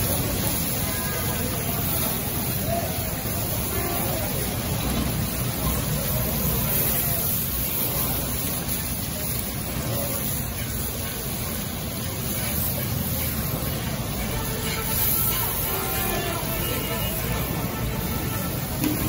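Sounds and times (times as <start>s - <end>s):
gas burners rushing: 0.0s - 19.0s
street noise: 0.0s - 19.0s.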